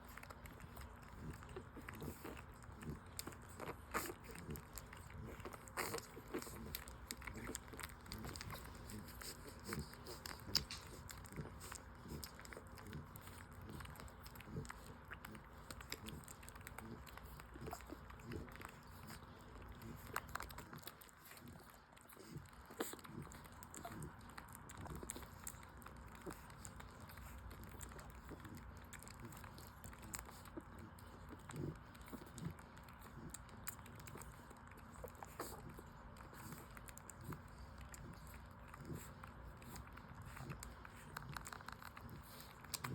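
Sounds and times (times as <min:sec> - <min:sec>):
puppies suckling: 0:00.0 - 0:42.9.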